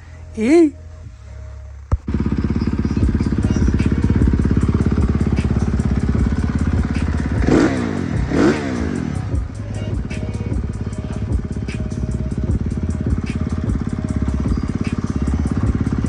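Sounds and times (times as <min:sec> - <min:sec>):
engine throttle blips: 0:00.8 - 0:16.0
dirt bike engine running: 0:01.9 - 0:16.0.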